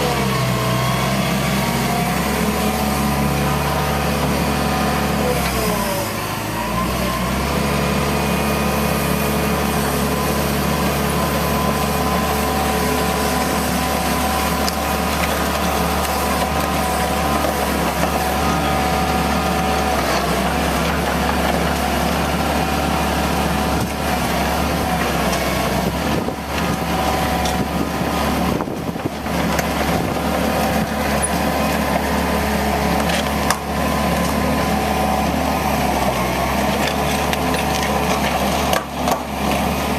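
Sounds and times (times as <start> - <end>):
excavator diesel engine whining: 0.0 - 39.9.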